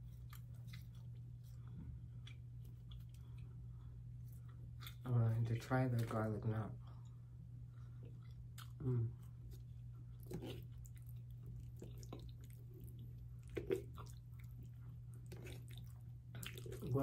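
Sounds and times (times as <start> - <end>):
person chewing: 0.0 - 5.1, 5.9 - 17.0.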